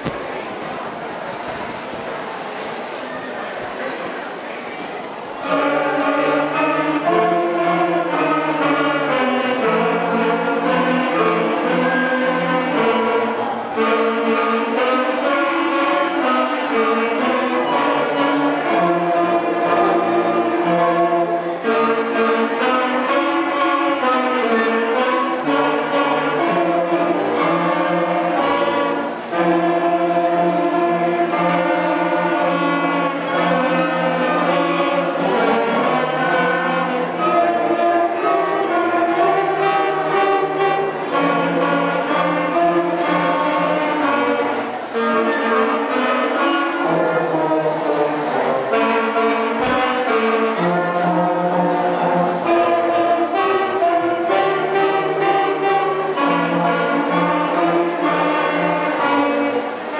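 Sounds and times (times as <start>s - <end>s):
concert band playing: 5.2s - 59.9s.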